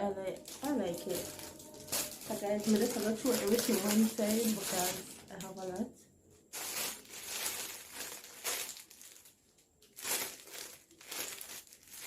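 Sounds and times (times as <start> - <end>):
packaging crinkling: 0.2 - 5.8, 6.4 - 12.0.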